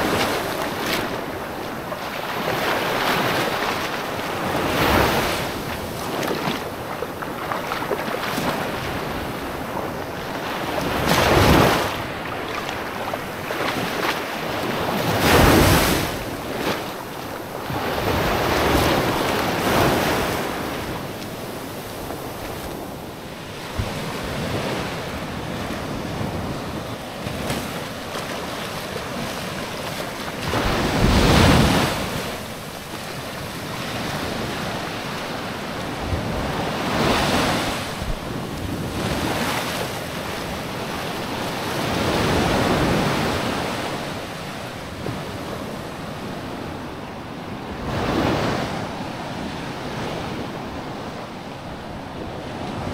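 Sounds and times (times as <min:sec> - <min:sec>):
small waves breaking on shore: 0:00.0 - 0:52.9
wind on microphone: 0:00.0 - 0:52.9.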